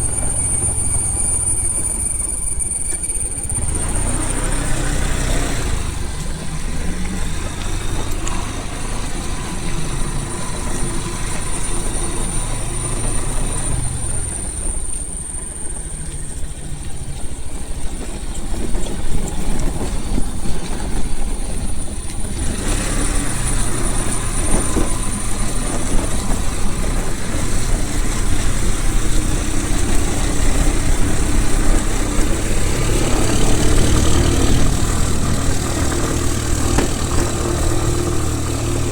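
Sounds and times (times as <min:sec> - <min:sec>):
road and wind noise: 0:00.0 - 0:38.9
vehicle engine rumble: 0:00.0 - 0:38.9.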